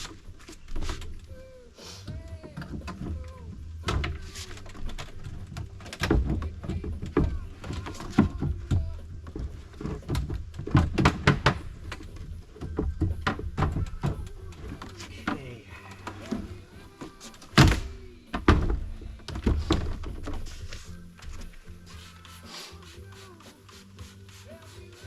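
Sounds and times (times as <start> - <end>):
background music: 0.0 - 25.0
hard plastic parts knocking: 2.0 - 22.1.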